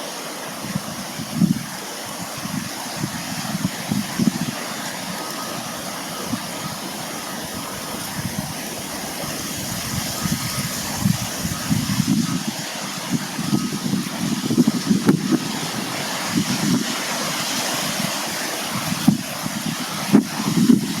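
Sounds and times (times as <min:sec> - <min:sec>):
wind buffeting microphone: 0:00.5 - 0:21.0.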